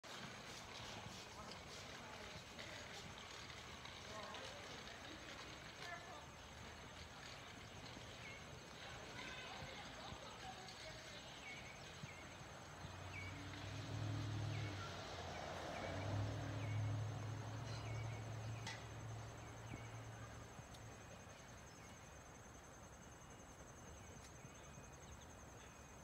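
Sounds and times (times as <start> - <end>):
insects trilling: 0.2 - 26.0.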